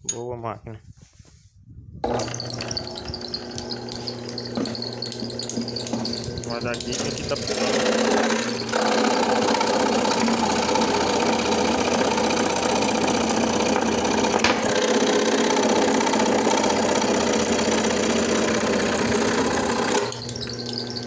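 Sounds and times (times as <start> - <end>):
scroll saw running: 2.0 - 21.0.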